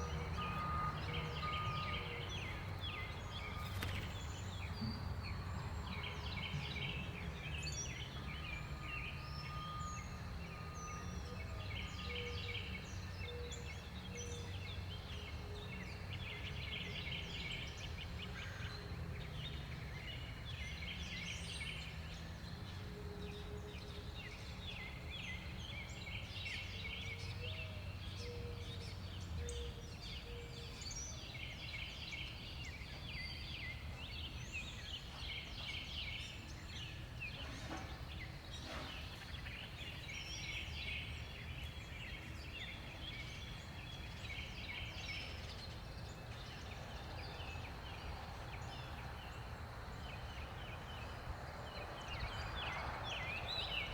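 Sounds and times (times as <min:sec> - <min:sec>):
songbirds trilling chatter: 0:00.0 - 0:53.9.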